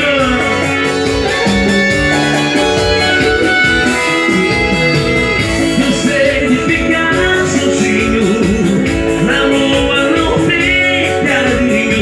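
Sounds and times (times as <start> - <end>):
electronic keyboard holding notes: 0.0 - 12.0
live band playing: 0.0 - 12.0.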